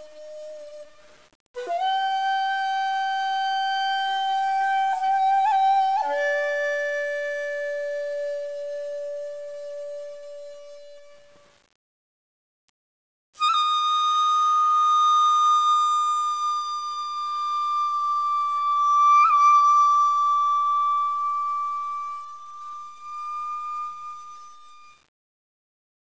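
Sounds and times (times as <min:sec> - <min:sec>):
long flute note: 0:00.0 - 0:11.4, 0:13.4 - 0:25.1.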